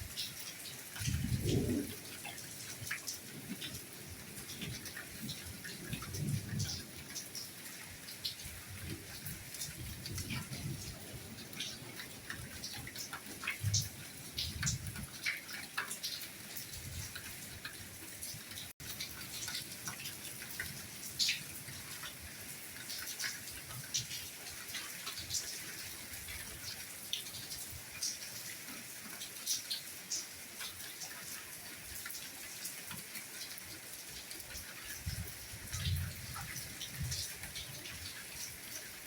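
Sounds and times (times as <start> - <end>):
soft rain patter: 0.0 - 39.0.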